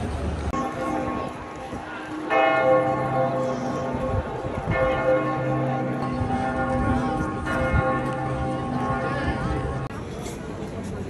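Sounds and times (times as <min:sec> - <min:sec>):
large church bell tolling: 0:00.5 - 0:10.0.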